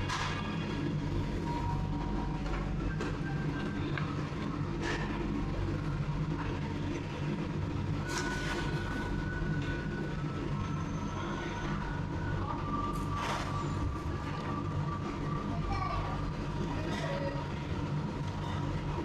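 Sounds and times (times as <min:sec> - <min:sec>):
machinery rumbling and humming: 0:00.0 - 0:19.0.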